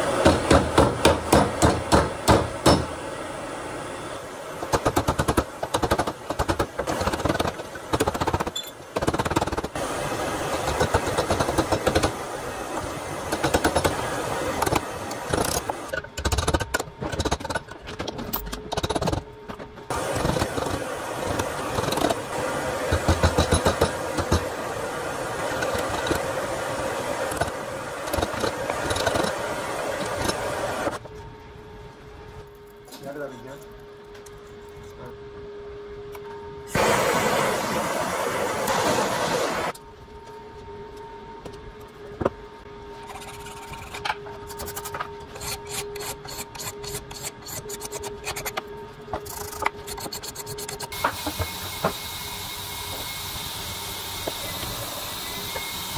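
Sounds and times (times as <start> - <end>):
steady background noise: 0.0 - 55.9.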